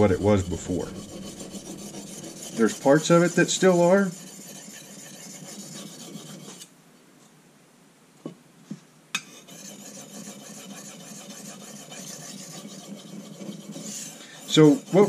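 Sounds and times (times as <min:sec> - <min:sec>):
knife scraping on whetstone: 0:00.0 - 0:06.7, 0:09.2 - 0:15.0.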